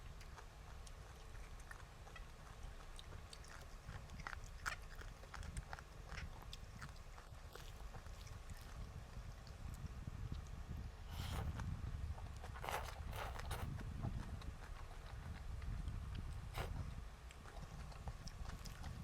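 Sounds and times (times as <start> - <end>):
chewing and eating: 0.0 - 19.0
steady low hum: 0.0 - 19.0.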